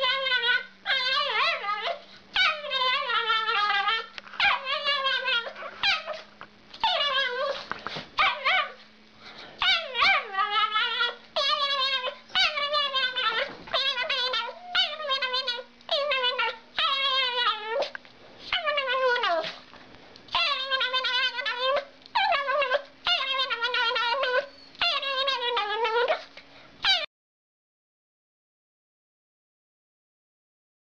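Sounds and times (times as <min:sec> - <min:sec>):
small dog howling and whining: 0:00.0 - 0:08.9, 0:09.6 - 0:19.6, 0:20.3 - 0:27.1
faint steady hum: 0:00.0 - 0:27.1.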